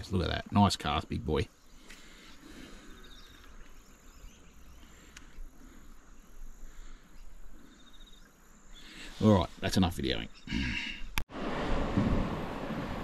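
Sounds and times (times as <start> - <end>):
insects chirping: 0.0 - 11.2
riverside ambience: 0.0 - 13.0.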